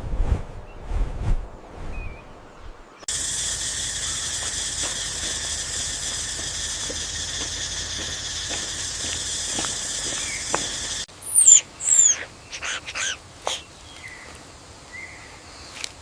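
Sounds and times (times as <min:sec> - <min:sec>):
high hissing ambience: 0:03.0 - 0:15.9.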